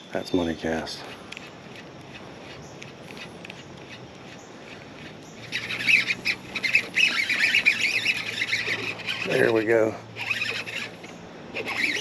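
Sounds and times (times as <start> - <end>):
fishing reel drag buzzing: 1.1 - 12.0.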